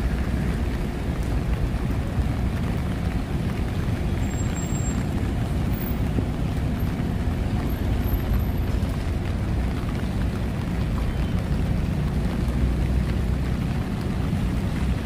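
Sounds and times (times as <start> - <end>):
falling rain: 0.0 - 15.0
road traffic rumble: 0.0 - 15.0.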